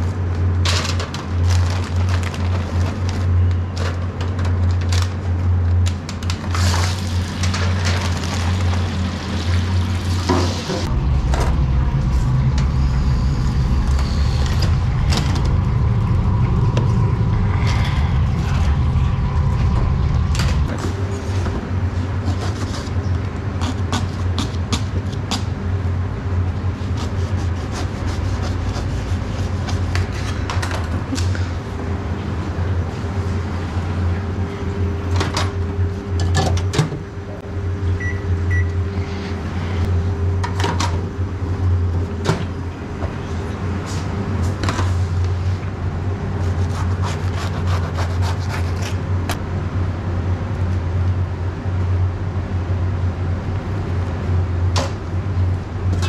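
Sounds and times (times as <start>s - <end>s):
kitchen equipment humming: 0.0s - 24.6s, 25.6s - 49.5s.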